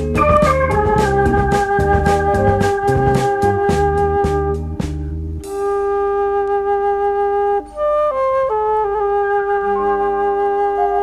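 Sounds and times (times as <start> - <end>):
background music of held notes: 0.0 - 11.0.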